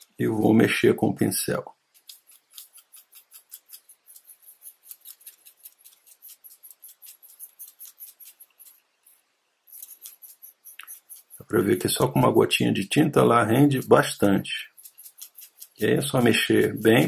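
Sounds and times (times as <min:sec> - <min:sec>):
paintbrush scraping metal cup: 0:01.9 - 0:12.5, 0:13.1 - 0:17.0.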